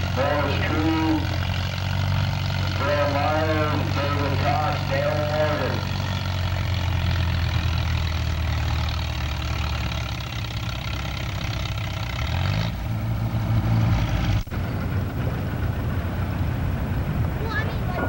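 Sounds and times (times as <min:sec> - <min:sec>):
tractor engine droning under load: 0:00.0 - 0:18.0.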